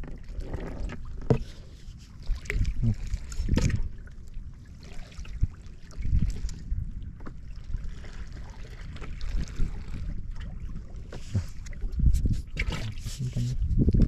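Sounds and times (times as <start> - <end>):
water sloshing against boat hull: 0.0 - 14.0.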